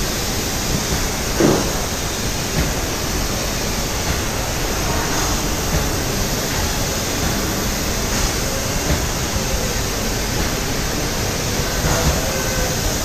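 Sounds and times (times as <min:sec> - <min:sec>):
spray gun hissing: 0:00.0 - 0:13.0.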